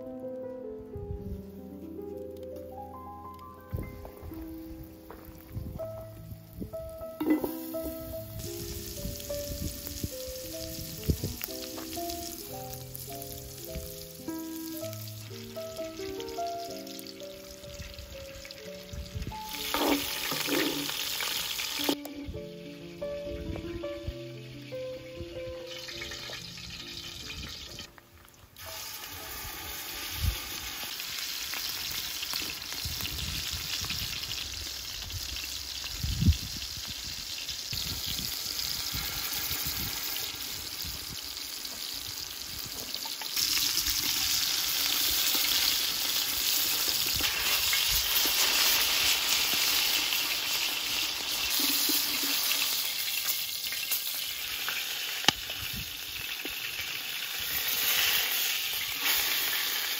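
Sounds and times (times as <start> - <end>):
meat sizzling in hot oil: 7.2 - 22.1, 24.2 - 27.9, 28.6 - 59.9.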